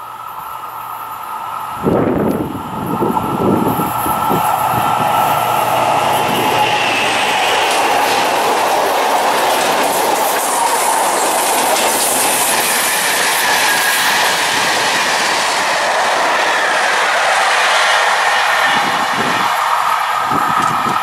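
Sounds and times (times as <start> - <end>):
diesel locomotive passing: 0.0 - 21.0
train wheels clattering over rails: 0.0 - 21.0.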